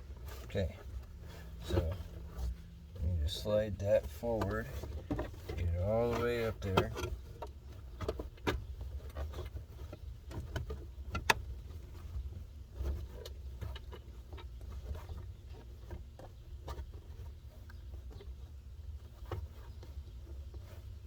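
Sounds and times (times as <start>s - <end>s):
low steady rumble: 0.0s - 21.0s
plastic knocks clicks and scrapes: 0.0s - 21.0s.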